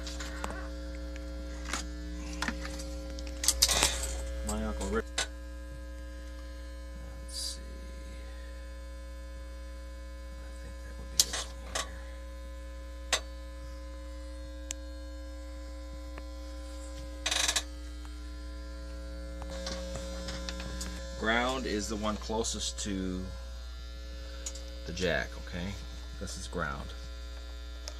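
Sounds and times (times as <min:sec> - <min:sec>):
electrical mains hum: 0:00.0 - 0:27.9.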